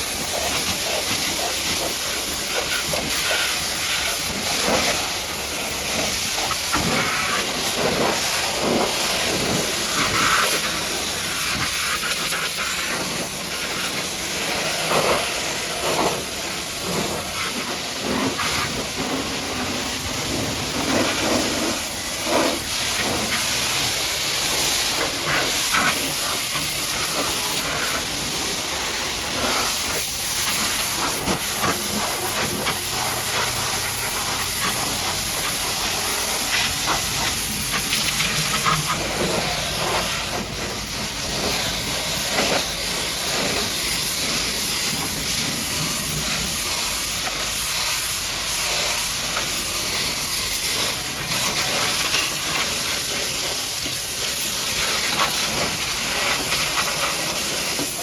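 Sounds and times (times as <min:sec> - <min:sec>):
pressure washer water spray: 0:00.0 - 0:58.0.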